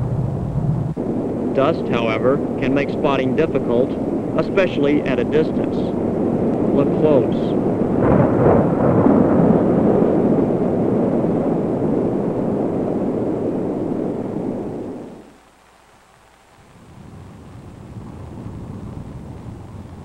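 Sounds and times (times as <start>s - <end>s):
rushing wind with low rumble: 0.0s - 15.3s, 16.5s - 20.0s.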